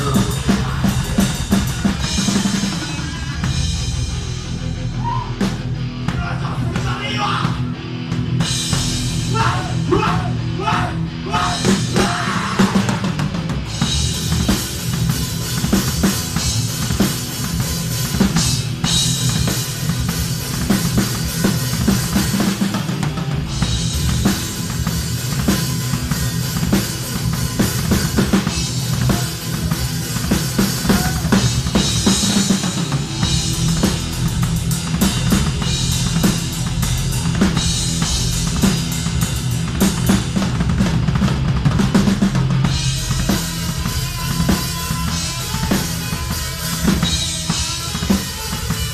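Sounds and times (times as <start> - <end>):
fast bass-drum and snare hits: 0.0 - 4.2, 11.6 - 48.9
metal band playing: 0.0 - 48.9.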